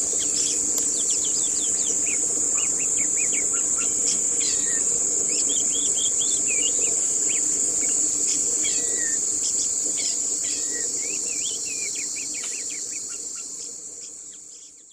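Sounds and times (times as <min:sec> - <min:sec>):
insect chorus: 0:00.0 - 0:14.9.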